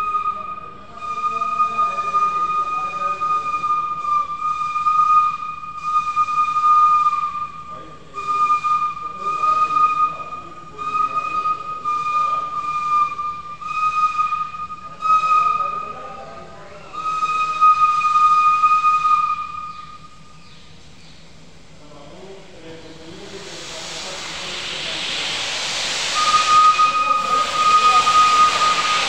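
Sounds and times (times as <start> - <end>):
steam locomotive whistle: 0.0 - 20.3, 23.2 - 29.0
hissing steam: 0.0 - 29.0.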